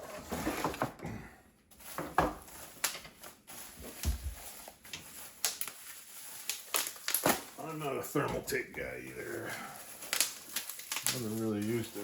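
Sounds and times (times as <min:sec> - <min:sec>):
packaging rustling: 0:01.7 - 0:12.0.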